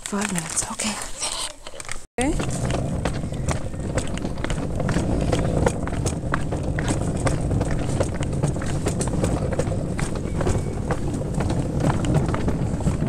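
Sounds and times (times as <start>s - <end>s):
camera handling and wind rumble: 0.0s - 13.0s
footsteps: 0.0s - 13.0s.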